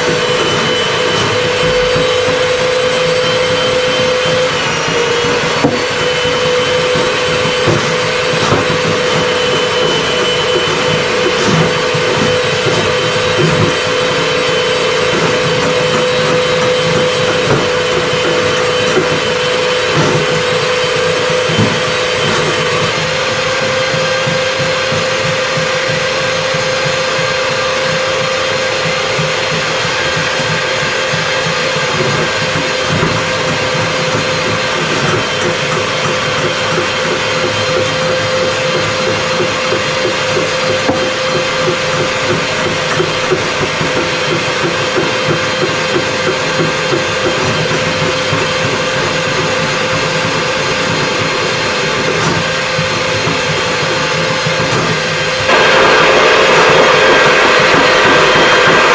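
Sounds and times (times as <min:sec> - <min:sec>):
electric machine humming: 0:00.0 - 0:58.9.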